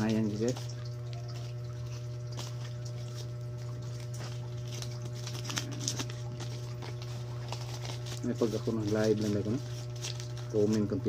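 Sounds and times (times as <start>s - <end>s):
paper banknotes rustling: 0.0s - 11.0s.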